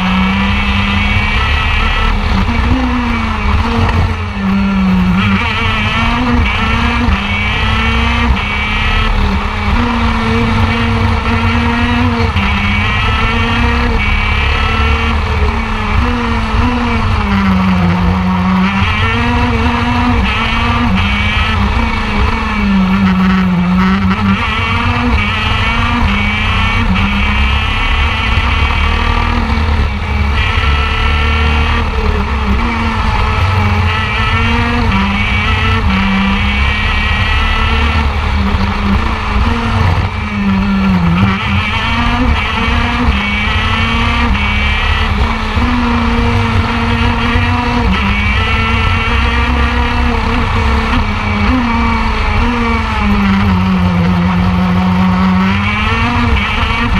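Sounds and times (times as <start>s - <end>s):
kart engine revving: 0.0s - 56.9s
wind: 0.0s - 56.9s.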